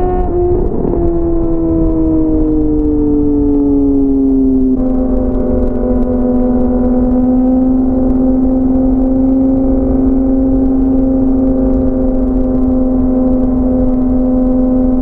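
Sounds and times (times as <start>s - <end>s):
motorcycle engine cruising: 0.0s - 15.0s
wind rumbling on microphone: 0.0s - 15.0s.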